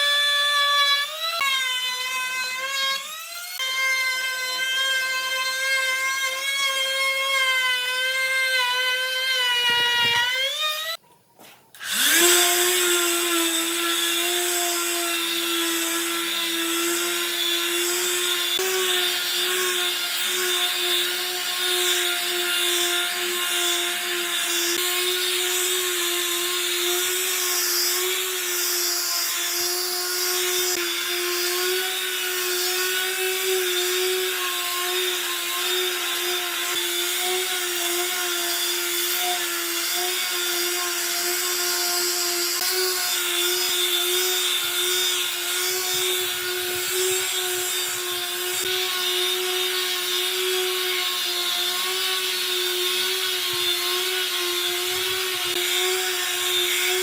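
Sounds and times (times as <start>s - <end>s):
electric power tool whining on wood: 0.0s - 11.0s, 11.8s - 57.0s.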